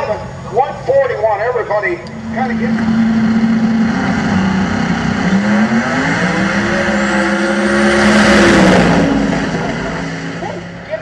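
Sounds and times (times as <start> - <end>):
drag racing cars accelerating: 0.4 - 11.0.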